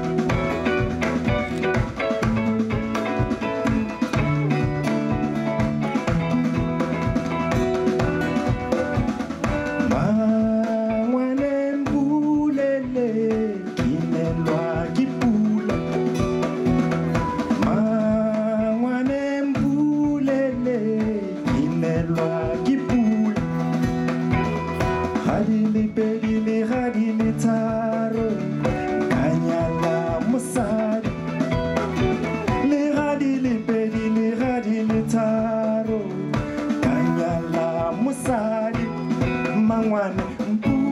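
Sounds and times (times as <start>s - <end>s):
live band music: 0.0s - 40.9s.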